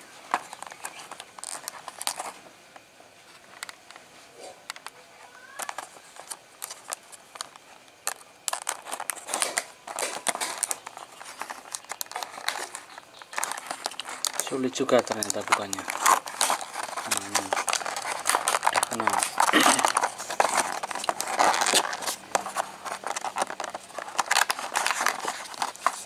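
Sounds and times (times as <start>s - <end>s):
plastic packaging crinkling: 0.0s - 2.4s, 4.7s - 26.0s.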